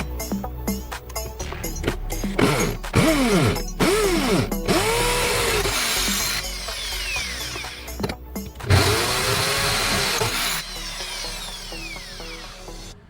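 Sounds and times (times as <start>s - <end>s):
background music: 0.0s - 13.0s
small power tool motor spinning: 2.3s - 13.0s.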